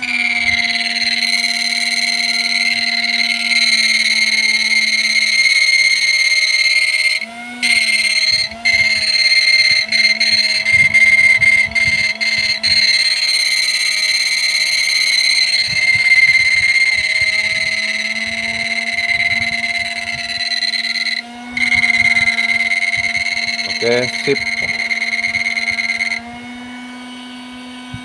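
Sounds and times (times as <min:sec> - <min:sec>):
circuit high-pitched whine: 0:00.0 - 0:26.8.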